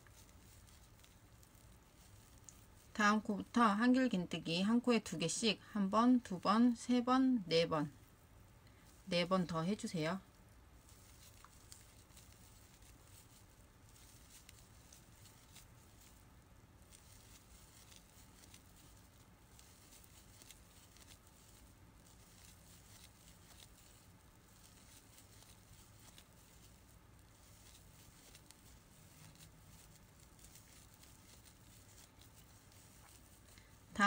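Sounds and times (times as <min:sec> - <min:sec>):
yarn rustling: 0:00.0 - 0:34.0.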